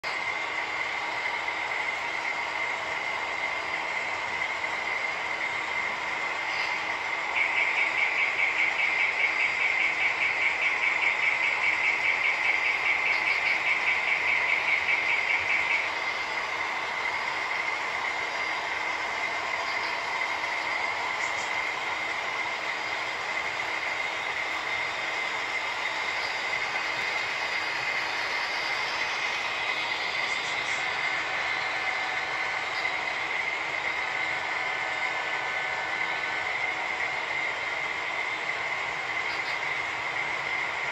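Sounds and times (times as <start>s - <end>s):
model train motor whining: 0.0s - 40.9s.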